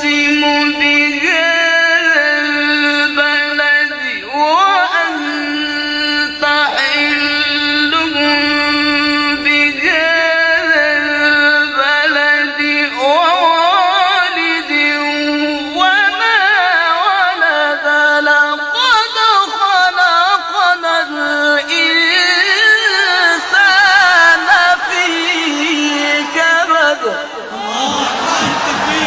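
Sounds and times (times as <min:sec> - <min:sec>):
person reciting melodically: 0:00.0 - 0:29.0.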